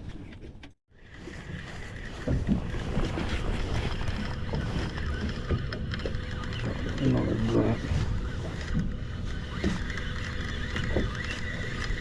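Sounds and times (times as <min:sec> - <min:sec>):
sea noise: 0:00.9 - 0:12.0.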